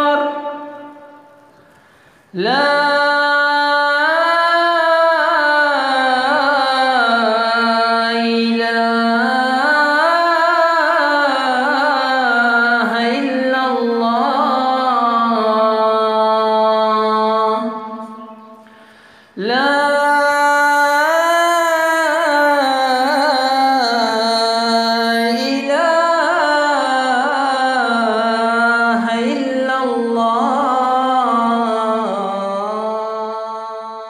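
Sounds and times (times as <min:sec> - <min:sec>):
man chanting call to prayer: 0:00.0 - 0:01.2, 0:02.4 - 0:18.3, 0:19.4 - 0:34.0.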